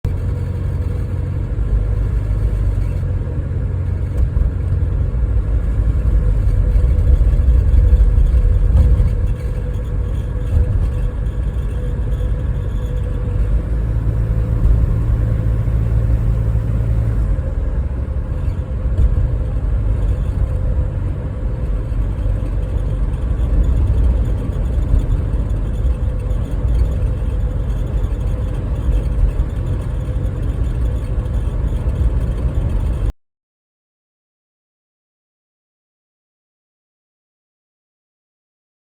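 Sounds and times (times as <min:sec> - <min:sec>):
van engine and road rumble: 0:00.0 - 0:33.2.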